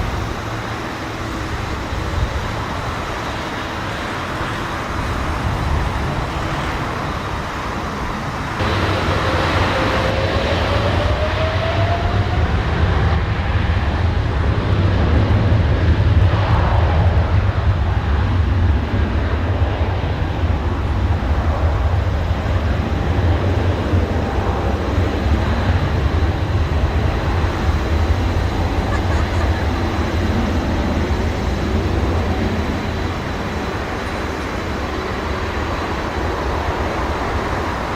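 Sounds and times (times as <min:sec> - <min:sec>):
engine whine climbing in pitch: 0:00.0 - 0:37.9
jet engine roar: 0:00.0 - 0:37.9
deep rumble: 0:04.8 - 0:37.9.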